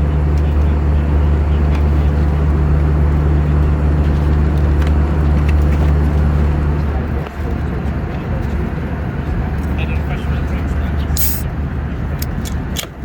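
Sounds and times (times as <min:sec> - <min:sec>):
airplane cabin hum and airflow: 0:00.0 - 0:13.0.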